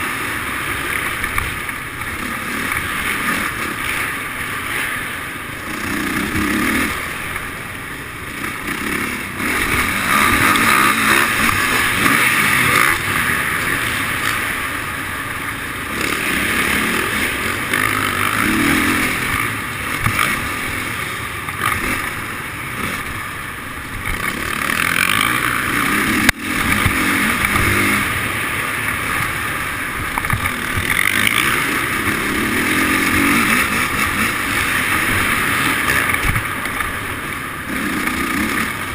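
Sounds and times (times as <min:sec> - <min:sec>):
dirt bike engines accelerating: 0:00.0 - 0:38.9.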